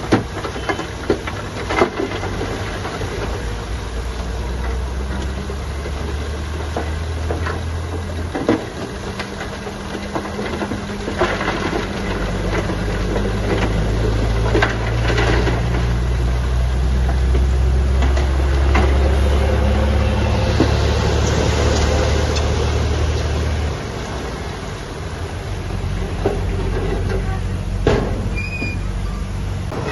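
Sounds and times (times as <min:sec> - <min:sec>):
diesel machine engine running: 0:00.0 - 0:29.9.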